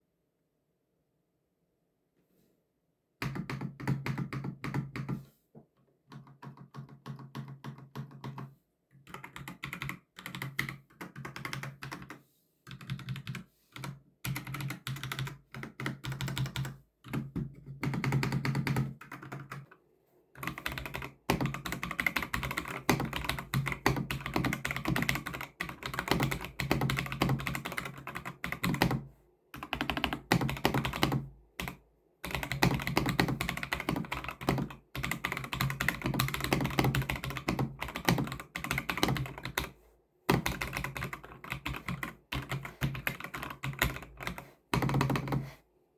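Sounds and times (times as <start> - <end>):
mechanical keyboard typing: 3.2 - 5.2, 6.1 - 19.7, 20.4 - 29.0, 29.6 - 45.5.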